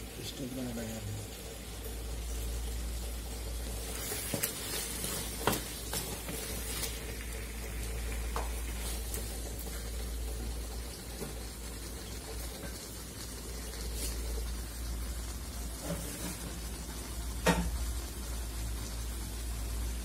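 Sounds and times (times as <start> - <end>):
meat and onions sizzling in oil: 0.0 - 20.0.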